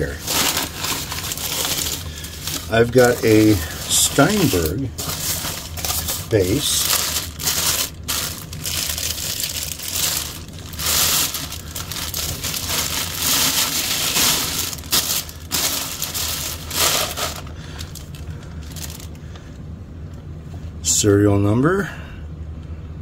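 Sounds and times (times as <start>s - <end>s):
packing paper rustling: 0.0s - 19.2s
plastic wrapping crinkling: 0.0s - 19.2s.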